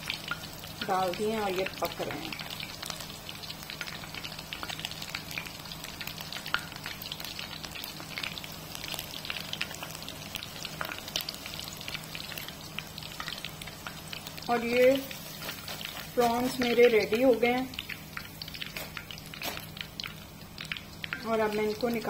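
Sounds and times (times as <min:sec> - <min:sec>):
prawns deep-frying in oil: 0:00.0 - 0:22.0.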